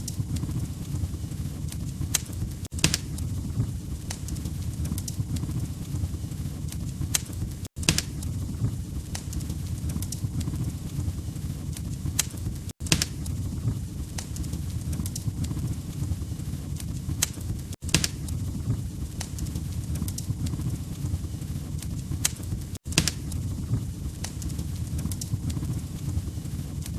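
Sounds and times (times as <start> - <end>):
fire flames rumbling: 0.0 - 26.9
fire pops and snaps: 0.0 - 26.9.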